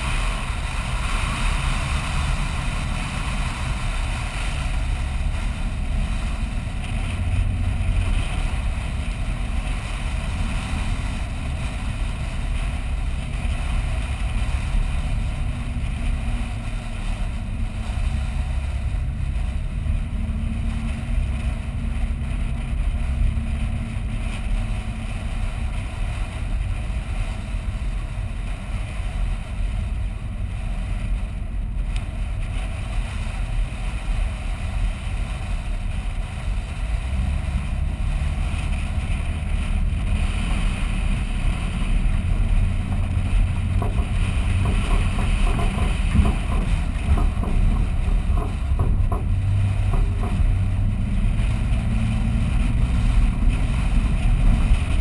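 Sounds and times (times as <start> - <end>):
vehicle rumbling on sand: 0.0 - 55.0
wind noise on microphone: 0.0 - 55.0.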